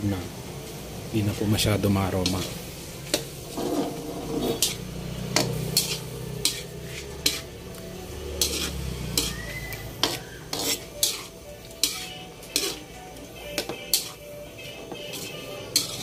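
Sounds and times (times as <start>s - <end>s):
low sizzle from pan: 0.0s - 16.0s
spatula scraping a wok: 2.1s - 16.0s.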